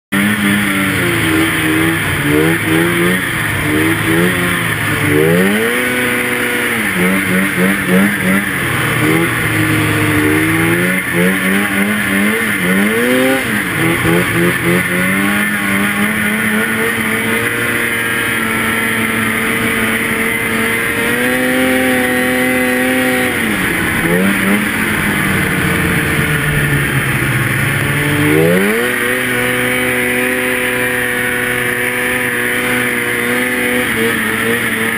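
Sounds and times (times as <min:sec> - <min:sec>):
snowmobile engine revving: 0:00.1 - 0:34.9.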